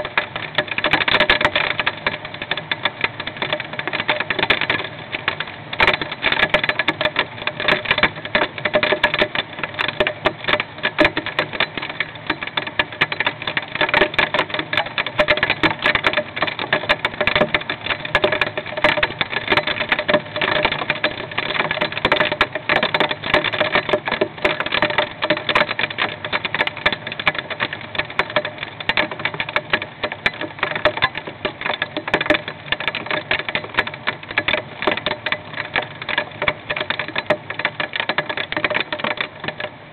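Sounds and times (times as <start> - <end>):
hail clattering on wooden box: 0.0 - 39.9.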